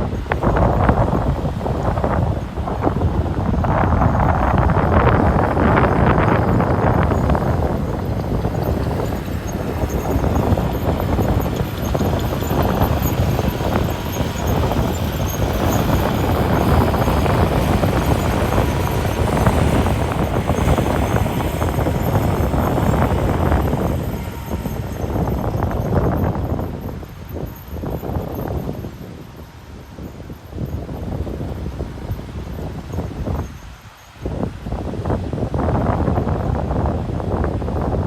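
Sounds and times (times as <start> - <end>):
ocean surf on a beach: 0.0 - 38.0
wind blowing across microphone: 0.0 - 38.0.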